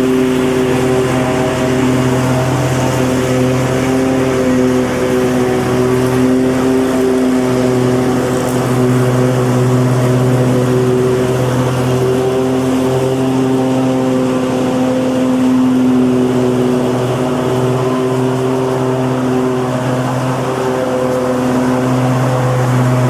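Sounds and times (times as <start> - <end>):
lawnmower engine running: 0.0 - 23.0.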